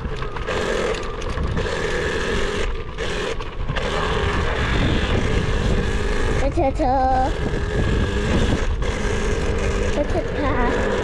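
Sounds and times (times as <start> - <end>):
dirt bike motor: 0.0 - 11.0.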